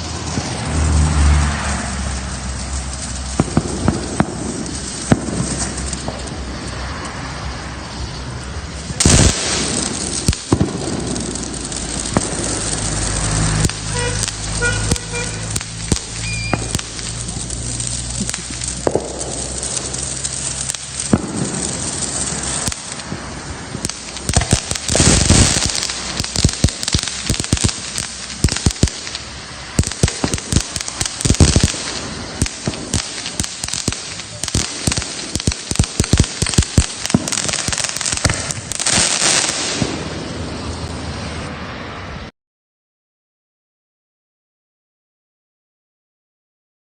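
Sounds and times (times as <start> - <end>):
fireworks cracking and popping: 0.0 - 42.3
fireworks hissing: 0.0 - 42.3.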